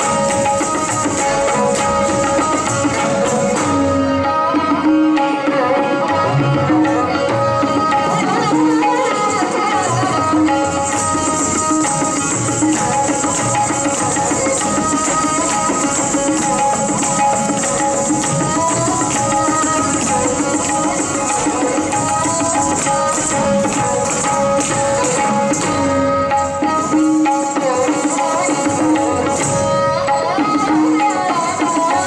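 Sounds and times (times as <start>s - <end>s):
tabla rhythm: 0.0s - 32.0s.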